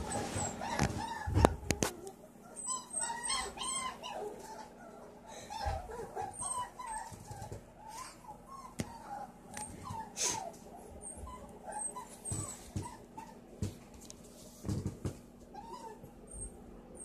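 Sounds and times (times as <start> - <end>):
puppies whining: 0.0 - 13.5, 14.8 - 17.0.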